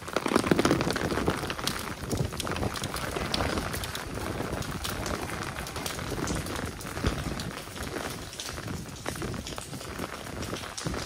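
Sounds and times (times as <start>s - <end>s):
rain on cobbled street: 0.0s - 11.0s.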